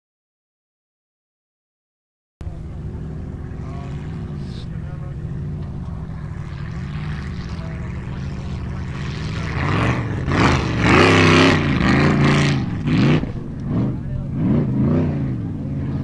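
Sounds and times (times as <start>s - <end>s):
racing buggy engine revving: 2.4s - 16.0s.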